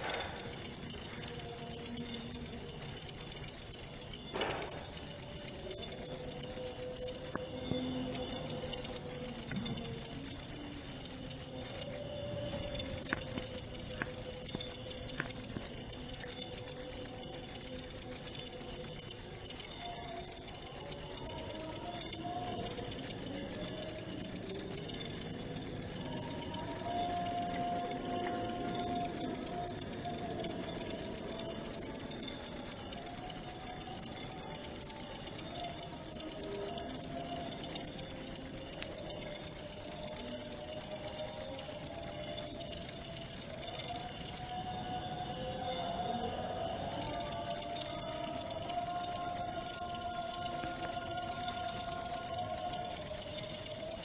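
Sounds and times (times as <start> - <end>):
cricket chirping trill: 0.0 - 54.0.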